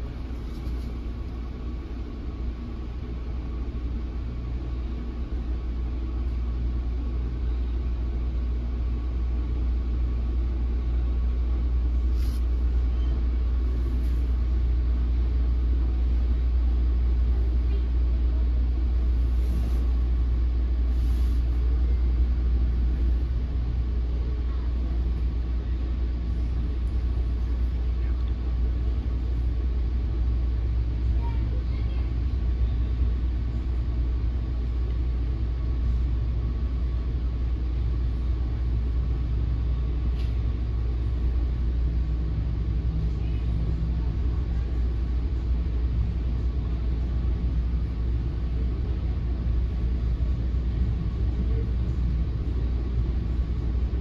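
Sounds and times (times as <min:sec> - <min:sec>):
train car rumbling on rails: 0:00.0 - 0:54.0.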